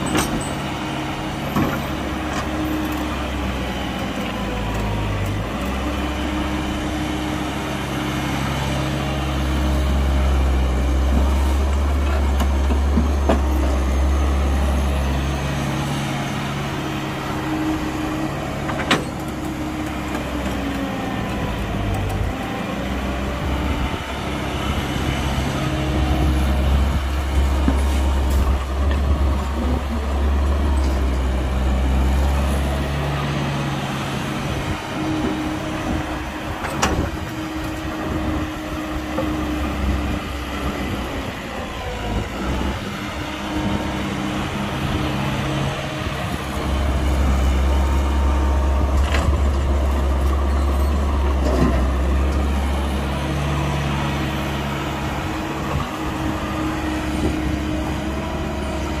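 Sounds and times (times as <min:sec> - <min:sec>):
heavy diesel engine working: 0:00.0 - 0:59.0.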